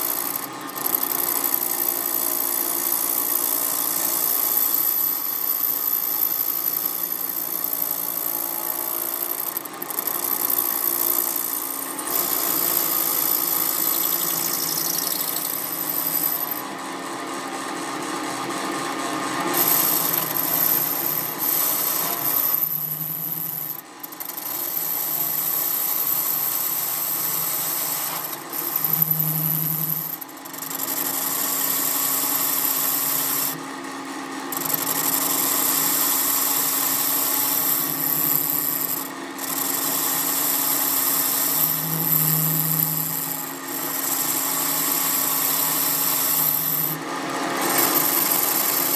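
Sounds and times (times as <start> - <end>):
workshop power tools running: 0.0 - 48.9.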